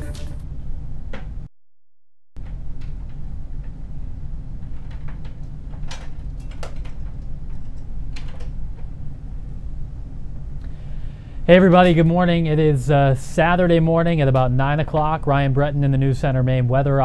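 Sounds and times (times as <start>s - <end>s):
low room hum: 0.0s - 1.5s, 2.4s - 17.0s.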